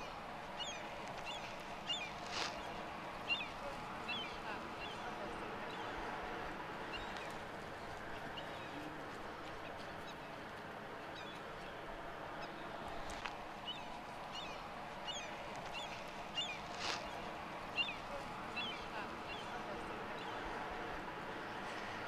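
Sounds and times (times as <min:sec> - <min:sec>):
birds chirping: 0:00.0 - 0:22.0
steady background hiss: 0:00.0 - 0:22.0.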